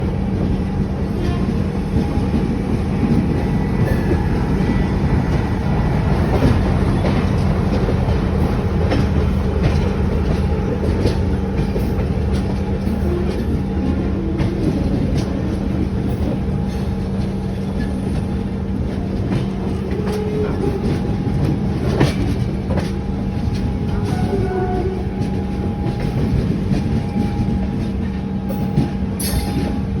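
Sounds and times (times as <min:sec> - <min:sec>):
train coaches rumbling: 0:00.0 - 0:30.0.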